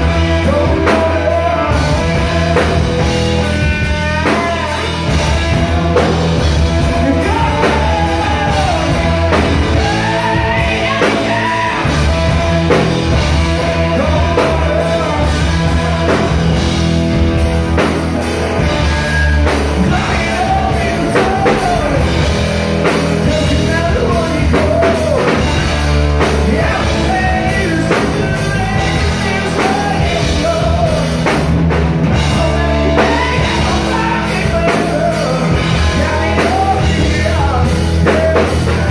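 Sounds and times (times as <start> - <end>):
man singing lead vocal: 0.0 - 17.1, 17.8 - 38.9
bass guitar: 0.0 - 38.9
drum kit: 0.0 - 38.9
electric guitar: 0.0 - 38.9.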